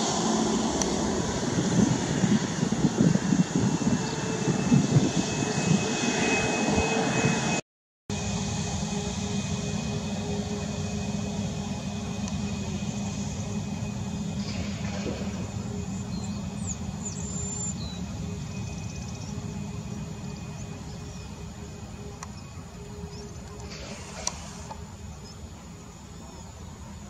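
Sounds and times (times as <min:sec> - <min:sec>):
jet engines running: 0:00.0 - 0:27.0.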